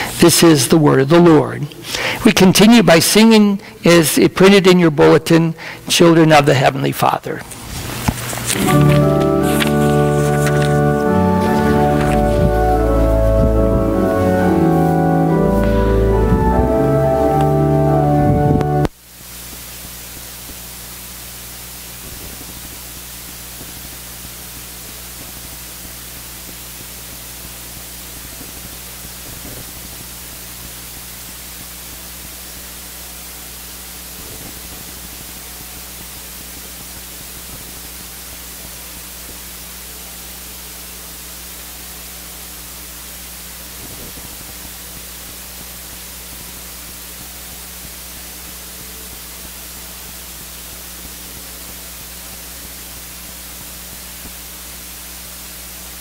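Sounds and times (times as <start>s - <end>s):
low electrical hum: 0.0s - 56.0s
steady hiss: 0.0s - 56.0s.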